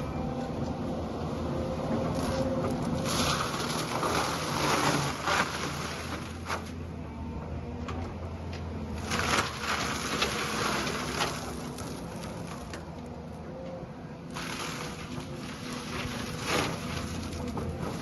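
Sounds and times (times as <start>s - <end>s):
excavator diesel engine running: 0.0s - 18.0s
mulcher grinding and shredding: 0.0s - 18.0s.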